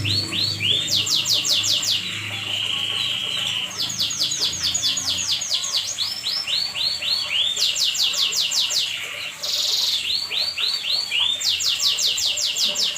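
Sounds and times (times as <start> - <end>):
canary singing: 0.0 - 12.9.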